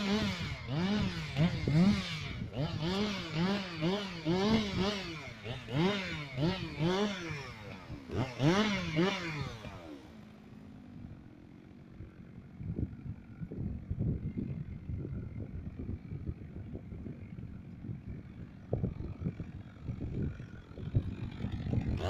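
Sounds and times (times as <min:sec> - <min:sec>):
chainsaw revving: 0:00.0 - 0:16.1, 0:17.2 - 0:22.0
chainsaw idling: 0:00.0 - 0:22.0.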